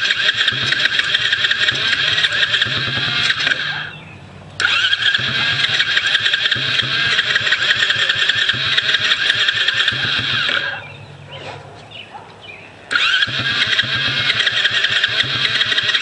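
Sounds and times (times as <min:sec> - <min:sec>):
engine cranking on starter: 0:00.0 - 0:04.0, 0:04.6 - 0:10.9, 0:12.9 - 0:16.0.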